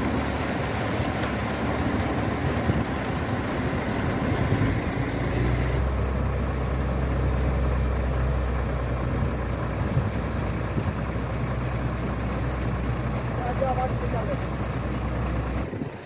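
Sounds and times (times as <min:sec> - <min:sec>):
heavy machine engine idling: 0:00.0 - 0:16.0.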